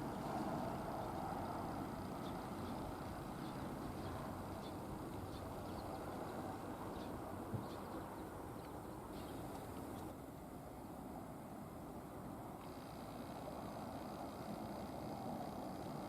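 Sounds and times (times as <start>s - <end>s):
outdoor background rumble: 0.0s - 11.2s, 12.0s - 16.0s.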